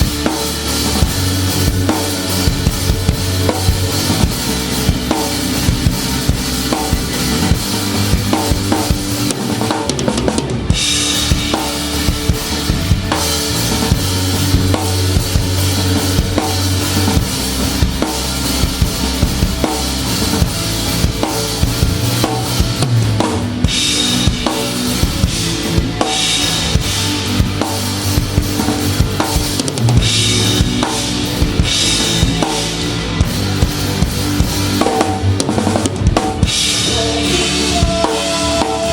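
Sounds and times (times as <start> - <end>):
drum kit beat: 0.0 - 38.9
rock band playing live: 0.0 - 38.9.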